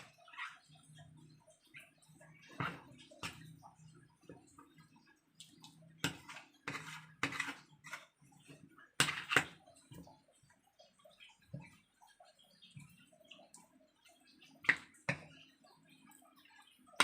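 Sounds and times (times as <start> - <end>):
wet batter mixing: 0.0 - 17.0.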